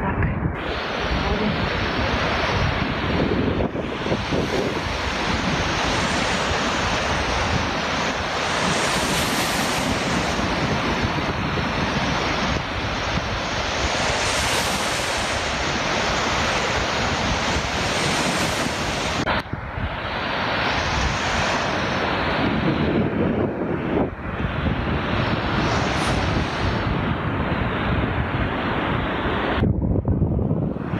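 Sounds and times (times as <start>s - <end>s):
surf breaking on beach: 0.0s - 29.8s
wind buffeting microphone: 0.0s - 30.9s.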